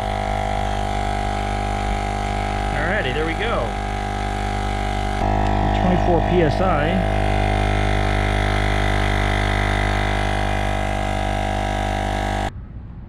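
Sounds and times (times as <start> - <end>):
air compressor running: 0.0 - 12.5.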